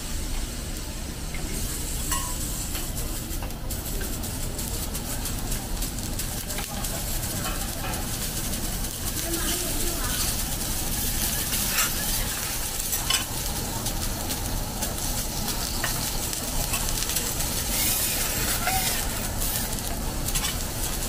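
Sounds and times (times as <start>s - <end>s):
food sizzling on a griddle: 0.0s - 21.0s.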